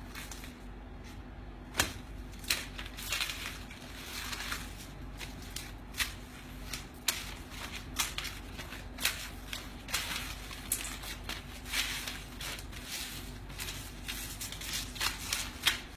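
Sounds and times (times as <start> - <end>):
banknotes rustling and crinkling: 0.0 - 15.9
steady low hum: 0.0 - 15.9.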